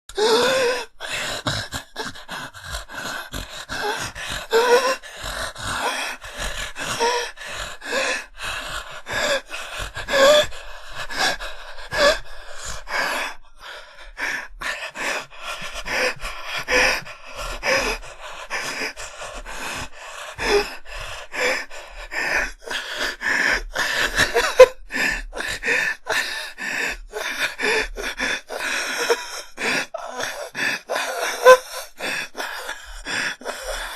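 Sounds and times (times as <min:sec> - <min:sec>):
person gasping and panting: 0:00.1 - 0:33.9.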